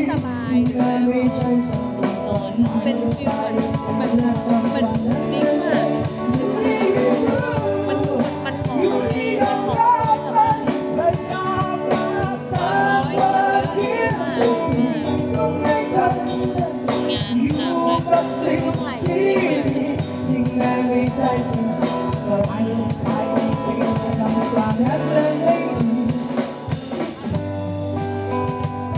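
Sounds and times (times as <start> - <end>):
drum kit beat: 0.0 - 28.9
electric guitars: 0.0 - 28.9
melodic lead guitar line: 0.0 - 28.9.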